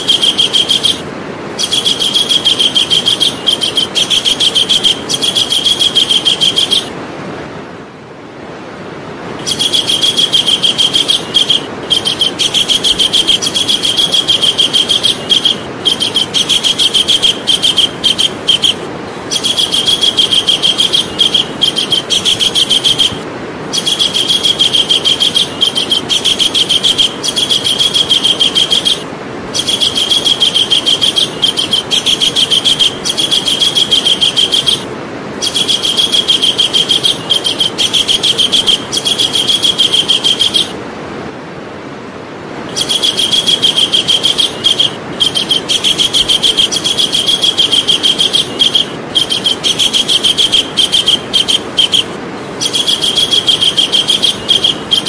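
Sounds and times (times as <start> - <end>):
kingfisher rattling call: 0.0 - 7.0, 9.4 - 40.8, 42.7 - 55.0
steady hiss: 0.0 - 55.0.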